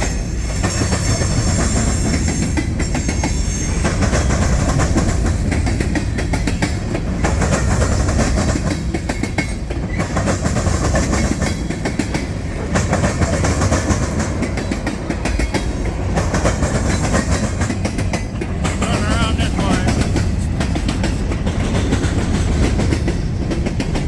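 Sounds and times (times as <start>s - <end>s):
freight train rumble: 0.0s - 24.0s
train wheels clattering on rails: 0.0s - 24.0s.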